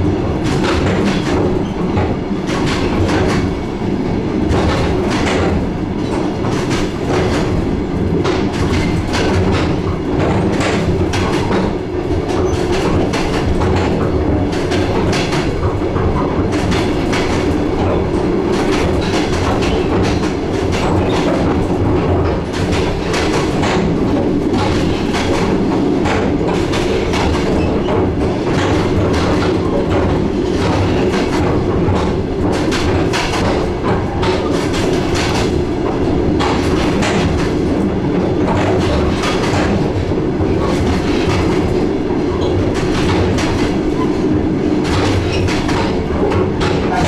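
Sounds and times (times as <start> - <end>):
train rolling rumble: 0.0 - 47.0
wheels clacking over rail joints: 0.0 - 47.0.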